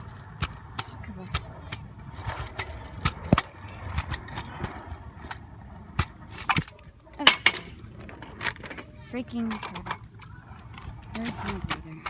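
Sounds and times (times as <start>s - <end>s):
scooter wheels rumbling on pavement: 0.0s - 12.0s.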